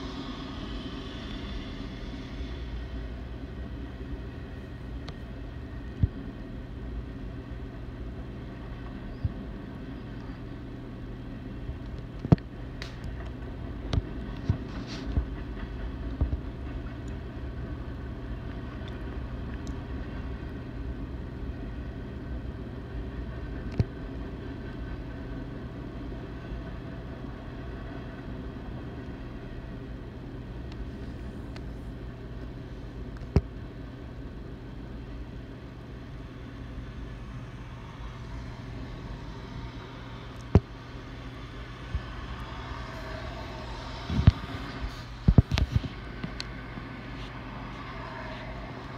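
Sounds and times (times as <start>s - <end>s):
freight train rumbling on rails: 0.0s - 48.9s.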